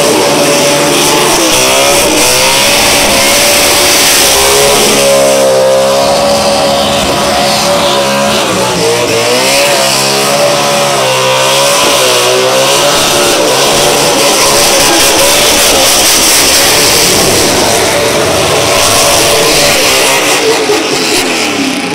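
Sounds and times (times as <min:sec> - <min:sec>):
engine at very high revs: 0:00.0 - 0:21.9.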